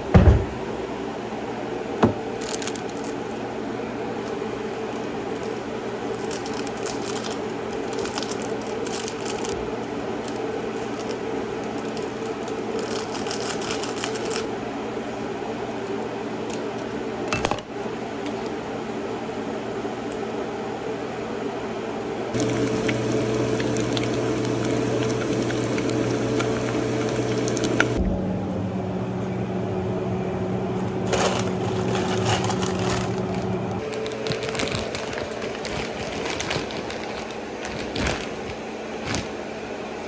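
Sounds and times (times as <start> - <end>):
appliance low hum: 0.0 - 40.0.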